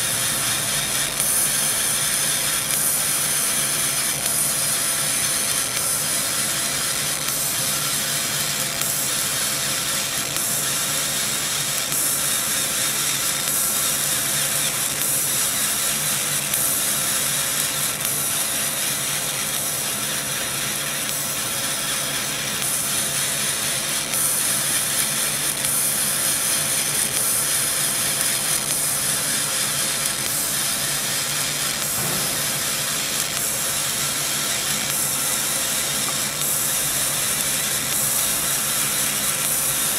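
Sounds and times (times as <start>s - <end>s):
laser cutter hiss: 0.0s - 39.9s.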